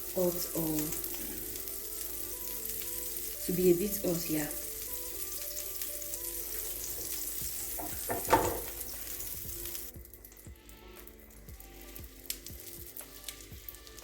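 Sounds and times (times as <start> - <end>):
food sizzling in a hot pan: 0.0 - 14.0.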